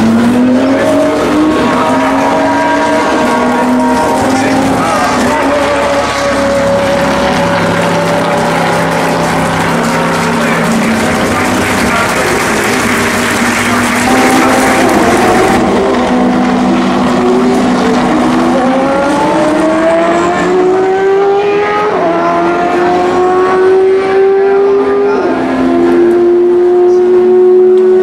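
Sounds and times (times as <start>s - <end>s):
race car engine accelerating: 0.0s - 28.0s.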